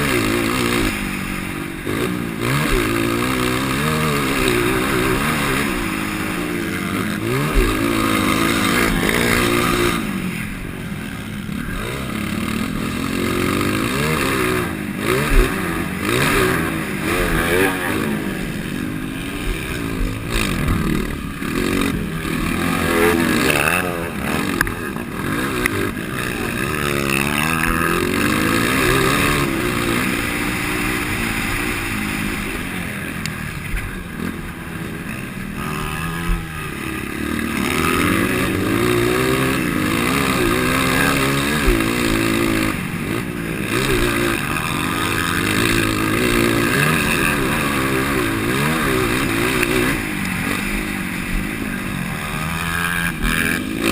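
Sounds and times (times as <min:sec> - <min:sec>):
motocross bike revving: 0:00.0 - 0:53.9.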